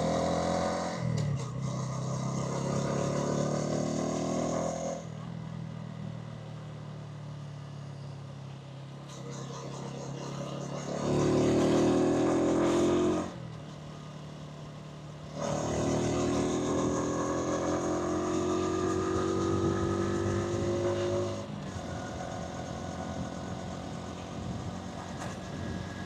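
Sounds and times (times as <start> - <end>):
motorcycle engine revving: 0.0 - 5.3, 9.0 - 13.8, 15.0 - 26.0.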